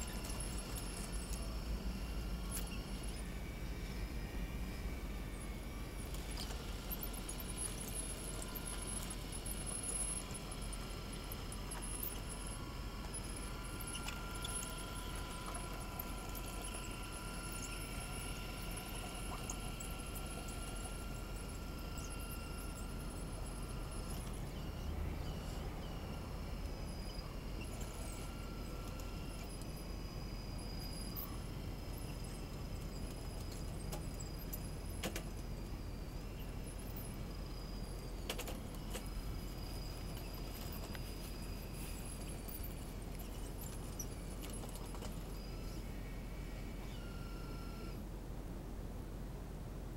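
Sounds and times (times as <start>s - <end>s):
small high squeaks and ticks: 0.0s - 4.0s, 4.7s - 48.0s
motors and gearboxes whining: 0.0s - 48.0s.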